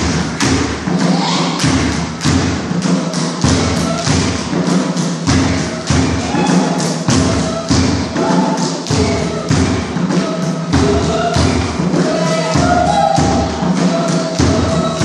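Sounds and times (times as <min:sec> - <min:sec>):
hand clapping: 0:00.0 - 0:00.9, 0:01.6 - 0:15.0.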